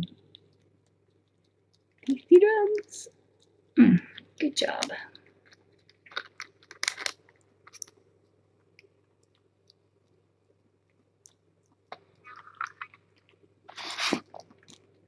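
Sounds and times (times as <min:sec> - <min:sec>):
kittens chewing wet food: 0:00.1 - 0:15.0.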